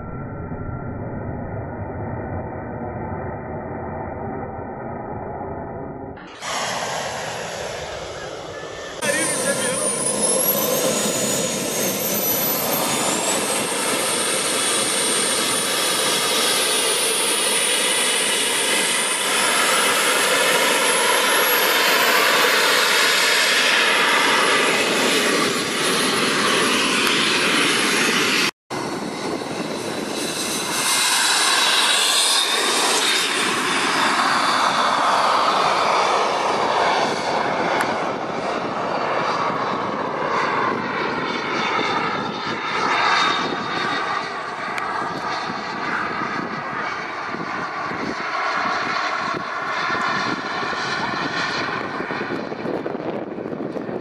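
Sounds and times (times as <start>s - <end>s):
model jet turbine whine: 0.0s - 54.0s.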